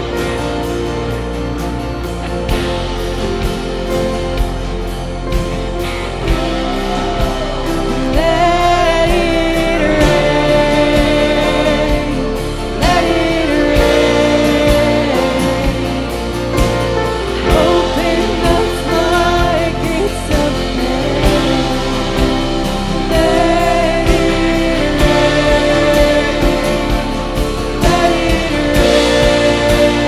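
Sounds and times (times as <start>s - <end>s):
band playing: 0.0s - 30.0s
lead vocals singing: 0.0s - 30.0s.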